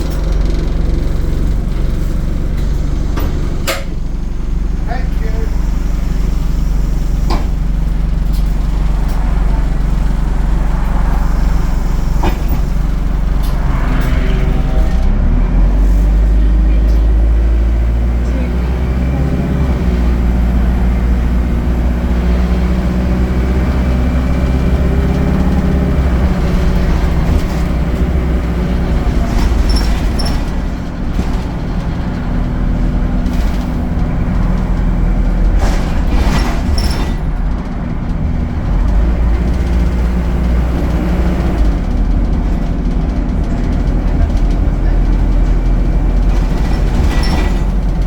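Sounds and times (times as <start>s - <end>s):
bus engine running: 0.0s - 48.0s.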